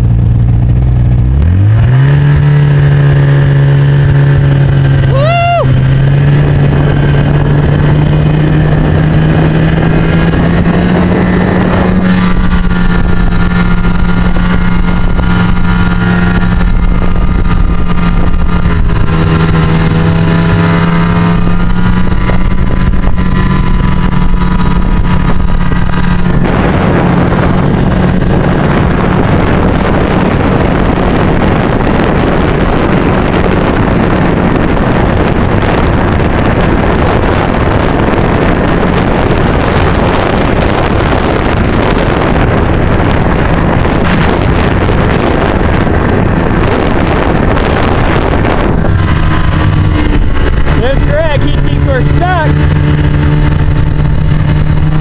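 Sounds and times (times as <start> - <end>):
snowmobile engine running: 0.0 - 55.0
wind rushing over microphone: 0.0 - 55.0.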